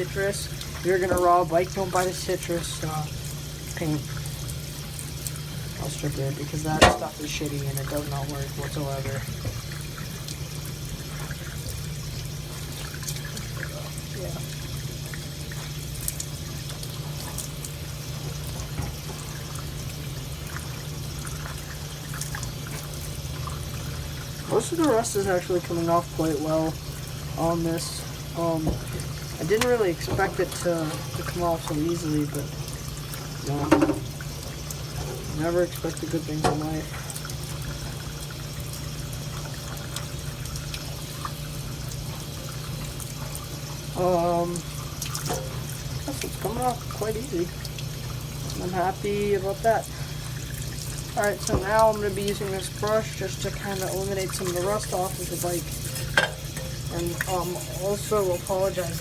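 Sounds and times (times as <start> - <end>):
water running: 0.0 - 59.0.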